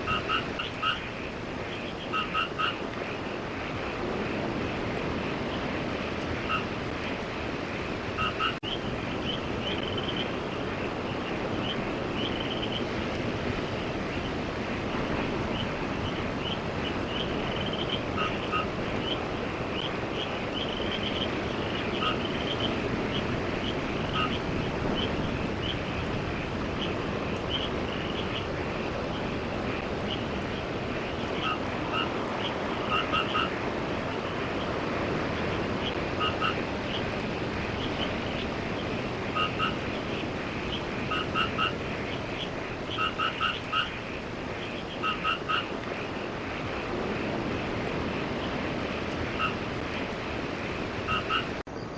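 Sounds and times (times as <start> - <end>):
surf rushing: 0.0 - 51.6
frogs chirping: 0.0 - 51.9
wind: 0.0 - 51.9.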